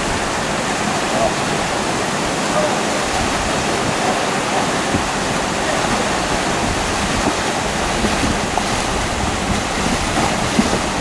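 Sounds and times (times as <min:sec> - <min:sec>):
rushing river water: 0:00.0 - 0:11.0.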